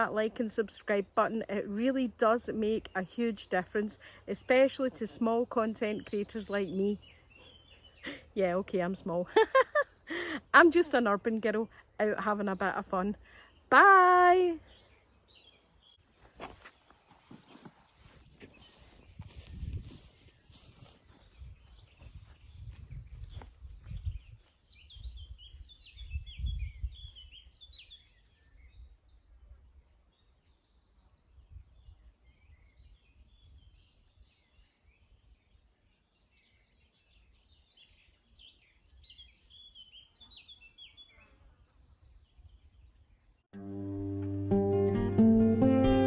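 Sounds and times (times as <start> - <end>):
birds chirping and trilling: 0.0 - 44.0.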